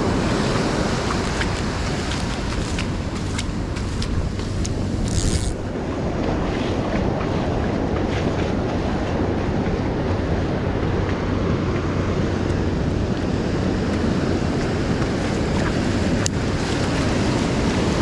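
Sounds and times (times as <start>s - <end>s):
ocean surf washing on beach: 0.0s - 18.0s
wind buffeting microphone: 0.0s - 18.0s.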